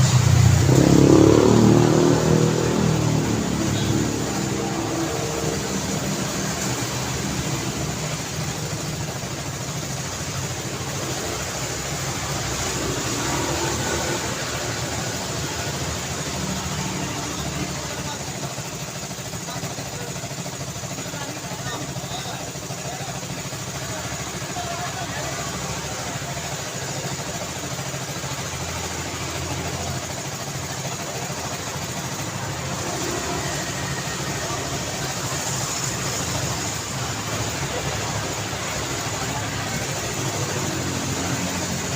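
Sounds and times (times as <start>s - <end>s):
road noise: 0.0s - 41.9s
street traffic: 0.0s - 41.9s
vehicle engines running: 0.0s - 41.9s.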